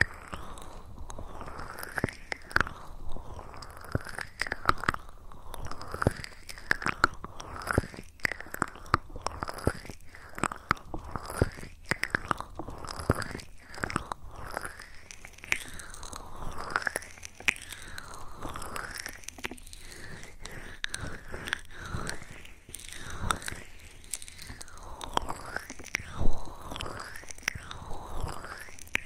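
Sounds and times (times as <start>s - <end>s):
wet mouth clicks and smacks: 0.0s - 29.0s.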